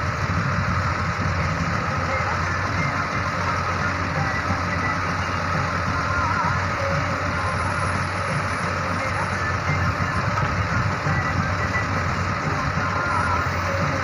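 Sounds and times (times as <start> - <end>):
backhoe diesel engine running: 0.0 - 14.0.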